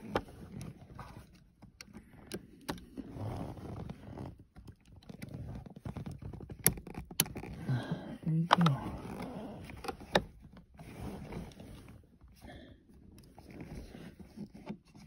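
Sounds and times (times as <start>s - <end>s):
plastic rubbing and scraping: 0.0s - 15.0s.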